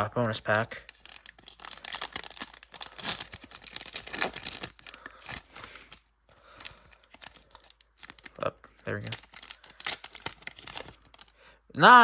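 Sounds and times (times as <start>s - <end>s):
foil wrapper ripping and crinkling: 0.0s - 11.4s.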